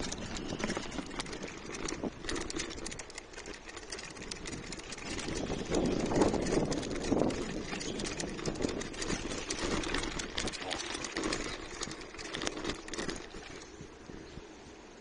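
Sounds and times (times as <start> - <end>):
bicycle rolling over cobblestones: 0.0 - 14.6.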